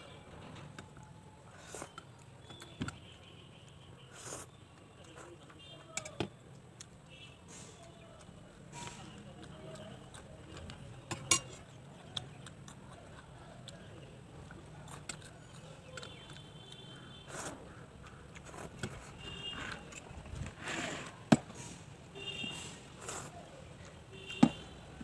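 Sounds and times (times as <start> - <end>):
chewing crunchy snacks: 0.6 - 21.3.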